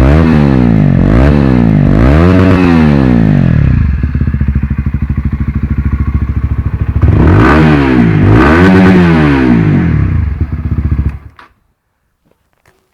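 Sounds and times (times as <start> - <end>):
motorcycle engine idling and revving: 0.0 - 11.5.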